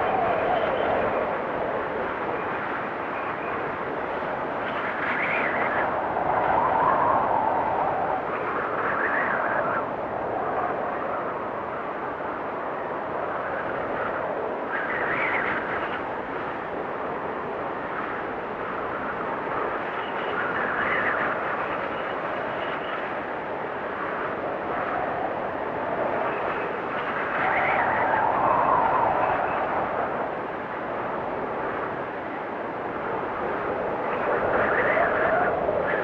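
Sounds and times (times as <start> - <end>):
strong wind gusting: 0.0 - 36.0.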